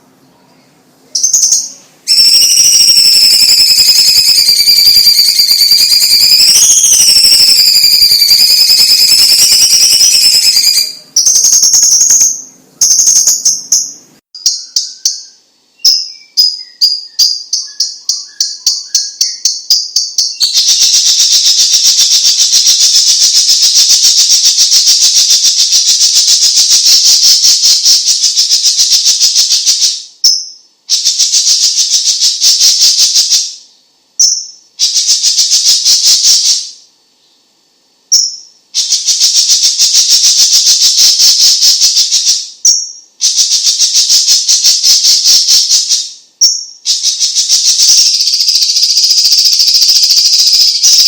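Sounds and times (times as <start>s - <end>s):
bird singing loudly: 0.0s - 33.6s, 38.1s - 51.0s.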